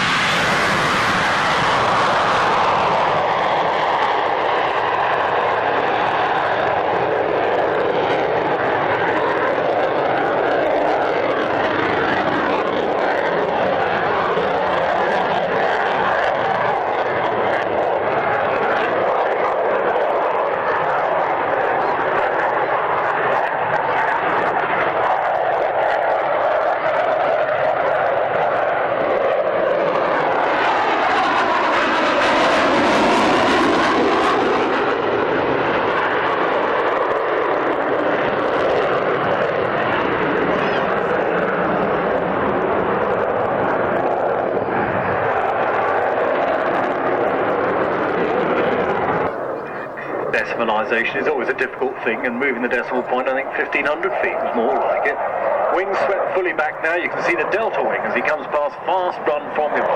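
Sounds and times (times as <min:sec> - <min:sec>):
jet engines roaring past: 0:00.0 - 0:59.9.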